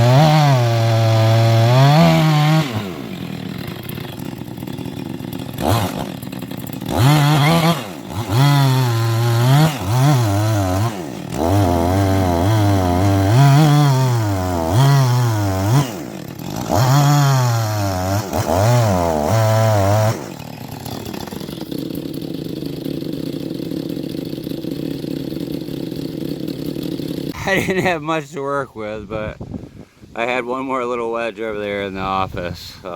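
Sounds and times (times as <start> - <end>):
chainsaw cutting log: 0.0 - 27.7.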